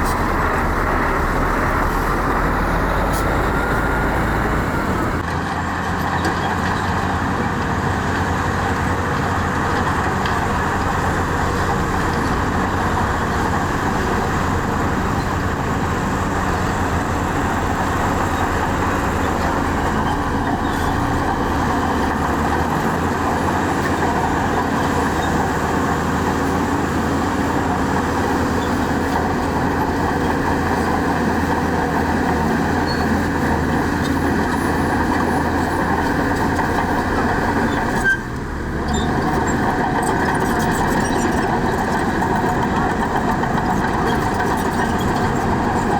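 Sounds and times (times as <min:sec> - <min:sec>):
heavy diesel machinery engines: 0:00.0 - 0:45.9.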